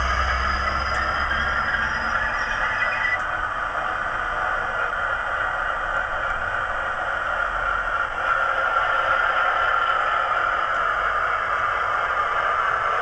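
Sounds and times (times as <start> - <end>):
model locomotive diesel engine sound: 0.0 - 13.0.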